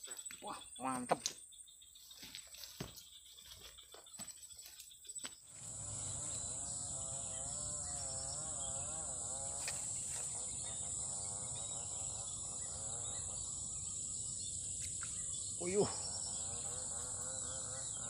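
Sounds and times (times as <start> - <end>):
high-pitched insect buzz: 0.2 - 18.0.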